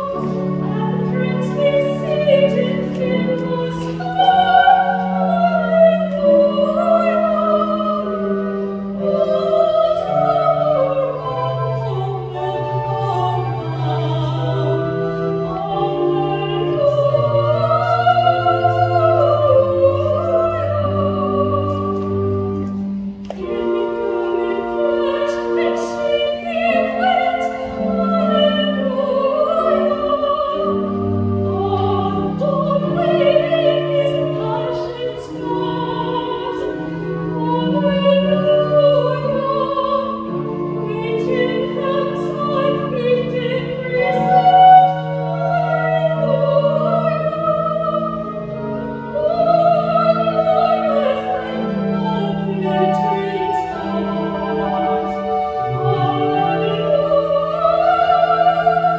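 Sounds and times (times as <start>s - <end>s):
soprano singing sacred song: 0.0s - 58.9s.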